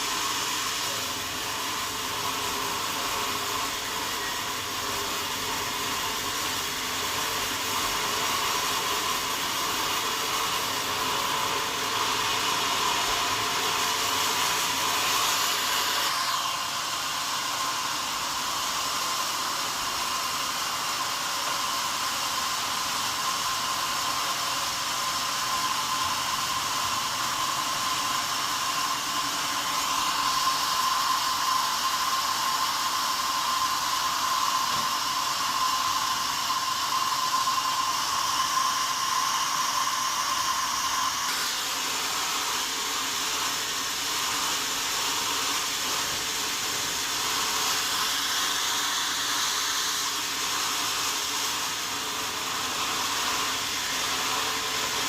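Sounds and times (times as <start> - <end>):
high steady saw whine: 0.0 - 55.0
sawmill saw hissing: 0.0 - 55.0.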